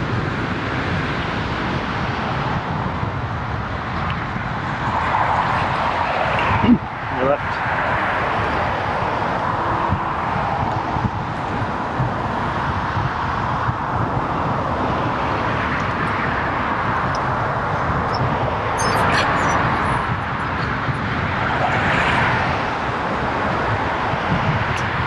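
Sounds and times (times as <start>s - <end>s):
traffic: 0.0s - 25.0s
wind and road noise: 0.0s - 25.0s.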